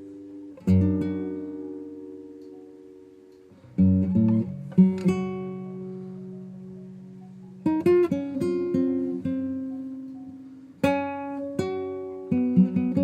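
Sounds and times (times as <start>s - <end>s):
plucked acoustic guitar chords: 0.0s - 13.0s.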